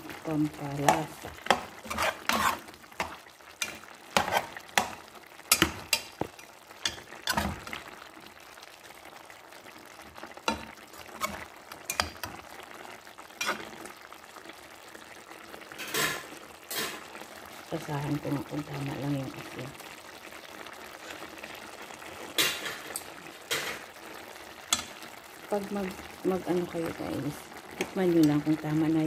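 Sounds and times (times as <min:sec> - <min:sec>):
sauce bubbling: 0:00.0 - 0:29.0.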